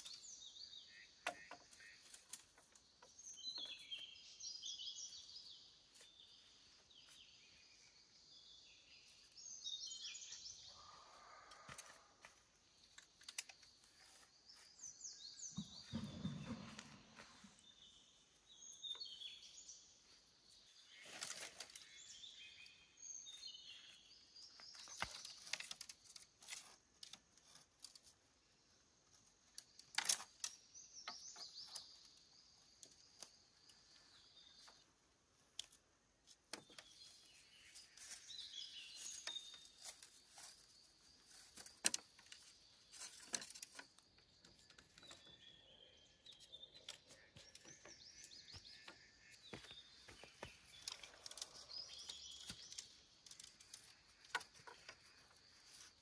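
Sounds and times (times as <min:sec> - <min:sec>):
birds chirping and singing: 0:00.0 - 0:26.2, 0:29.6 - 0:34.9, 0:36.5 - 0:56.0.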